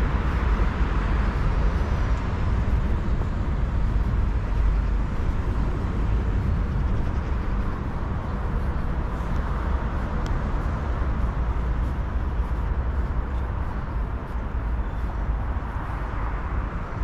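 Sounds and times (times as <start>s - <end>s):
low rumbling outdoor background noise: 0.0s - 17.0s.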